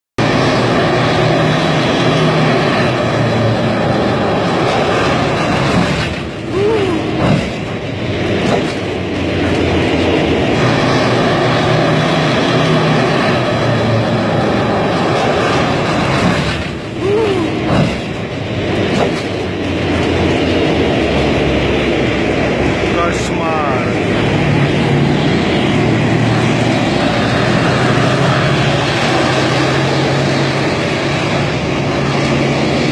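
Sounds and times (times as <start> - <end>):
tank engine and tracks: 0.2 - 32.9.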